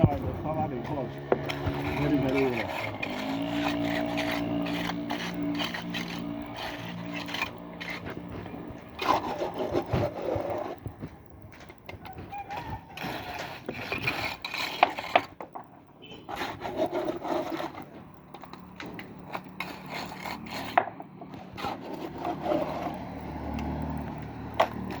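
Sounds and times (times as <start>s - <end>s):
hand tools scraping wet concrete: 0.0s - 25.0s.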